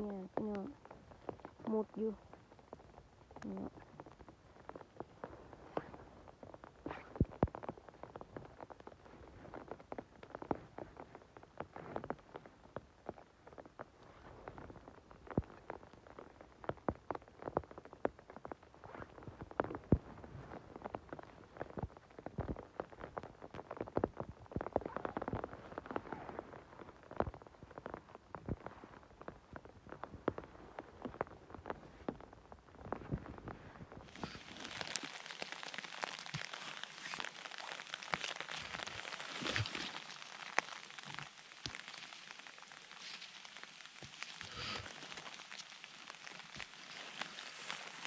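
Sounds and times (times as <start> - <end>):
rustling of moss and twigs: 0.0 - 48.0.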